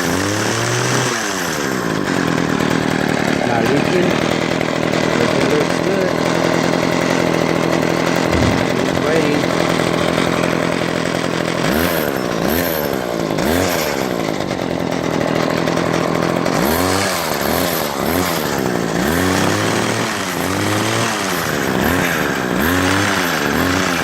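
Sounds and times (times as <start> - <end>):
string trimmer engine revving: 0.0 - 24.0.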